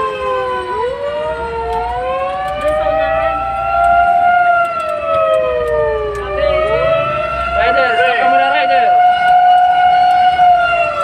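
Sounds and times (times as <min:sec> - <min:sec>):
fire engine sirens wailing: 0:00.0 - 0:11.0.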